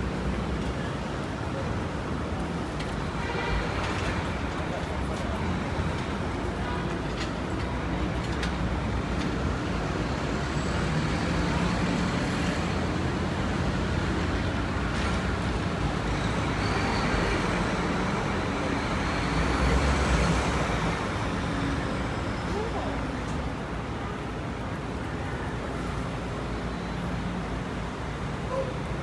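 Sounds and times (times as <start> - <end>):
road traffic passing: 0.0 - 29.0.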